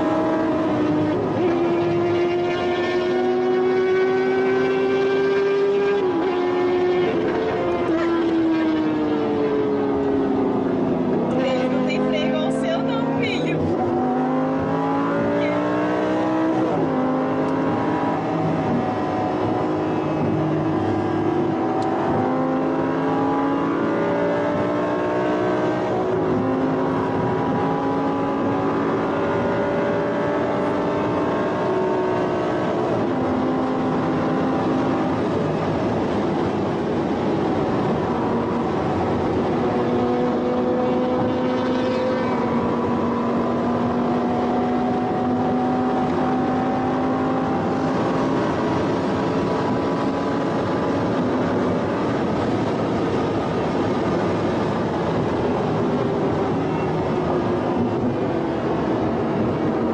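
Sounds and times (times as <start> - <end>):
vehicle engine at high speed: 0.0 - 59.9
wind and road noise: 0.0 - 59.9.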